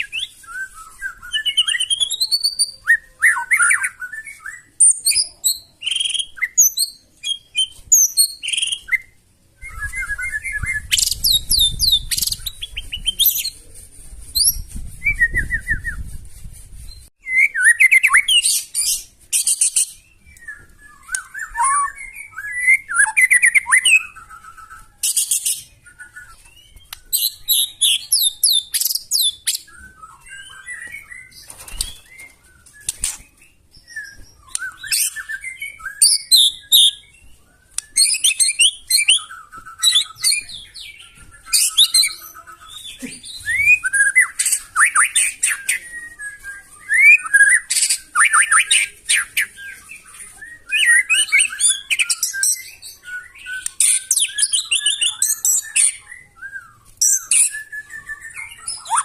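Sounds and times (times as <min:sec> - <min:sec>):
bird singing whistled phrases: 0:00.0 - 0:13.6, 0:14.4 - 0:16.1, 0:17.2 - 0:59.0.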